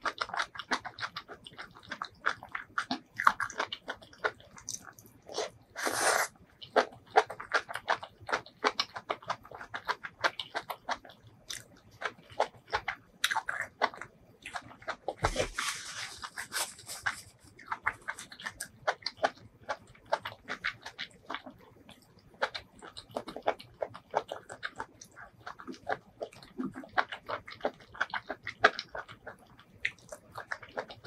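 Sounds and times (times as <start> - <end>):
wet chewing and mouth smacking: 0.0 - 31.0.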